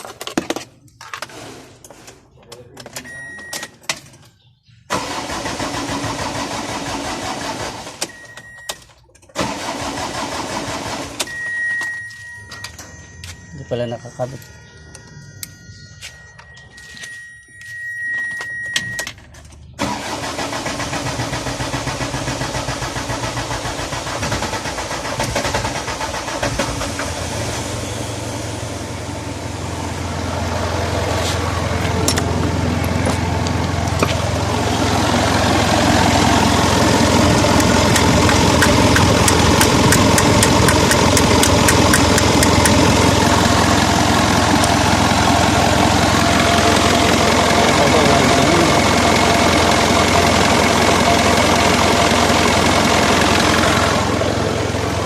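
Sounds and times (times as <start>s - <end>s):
diesel engine starting and running: 0.0s - 55.0s.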